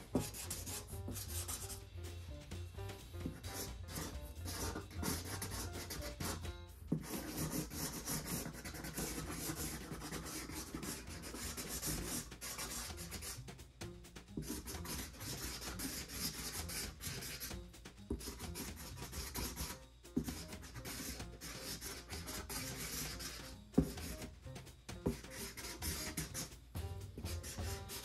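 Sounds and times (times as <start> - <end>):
marker scratching on cardboard: 0.0 - 2.2, 2.8 - 13.5, 14.3 - 24.4, 25.0 - 28.0.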